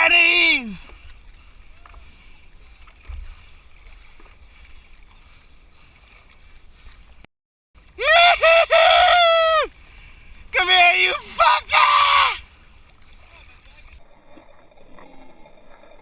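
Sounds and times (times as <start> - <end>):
water sloshing around paddleboard: 0.0 - 8.0, 9.7 - 15.0
quiet wind: 0.0 - 16.0.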